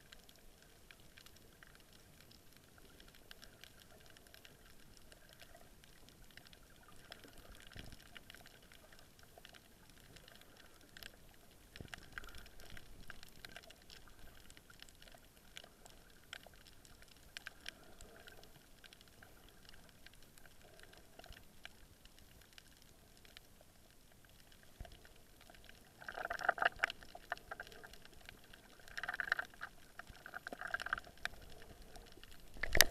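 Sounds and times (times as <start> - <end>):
underwater crackle of clicks: 0.0 - 32.9.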